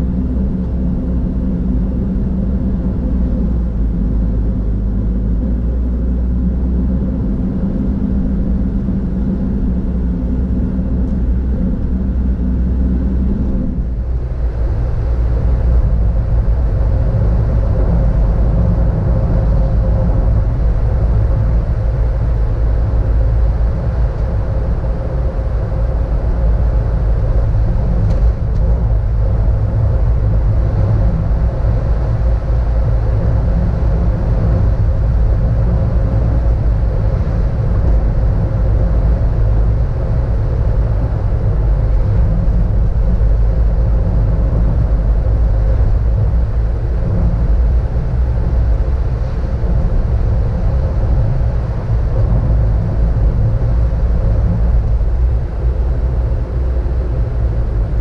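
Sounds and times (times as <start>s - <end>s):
car engine and tyre rumble: 0.0s - 58.0s
faint steady hum: 0.0s - 58.0s.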